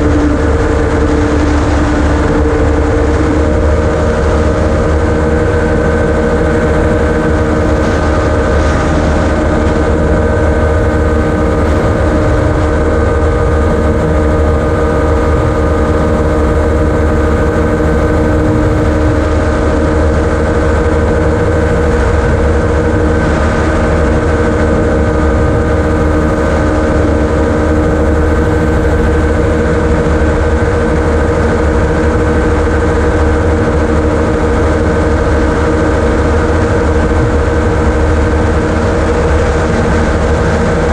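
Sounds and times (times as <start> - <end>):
gyroplane engine and propeller: 0.0 - 40.9
rushing air noise: 0.0 - 40.9.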